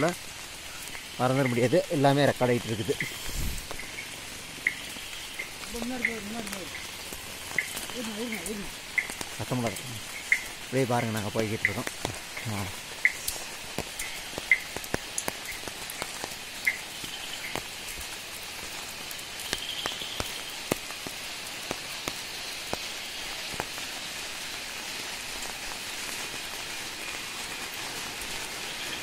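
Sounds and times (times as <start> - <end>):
heavy rain falling: 0.0 - 29.0
raindrops tapping close by: 0.0 - 29.0.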